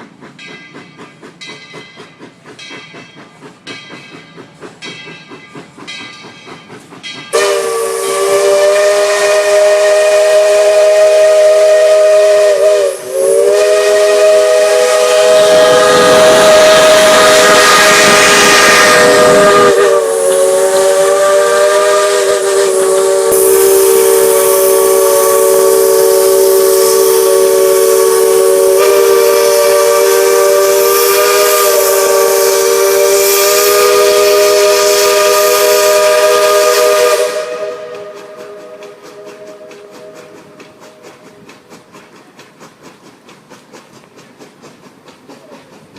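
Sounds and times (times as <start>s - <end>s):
steam locomotive chime whistle: 0.0s - 41.4s
steam hissing: 0.0s - 45.9s.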